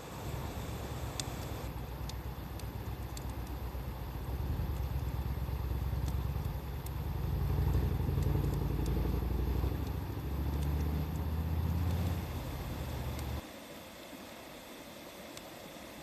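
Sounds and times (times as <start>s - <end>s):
low engine rumble: 0.0s - 13.4s
wood fire crackling: 0.0s - 13.4s.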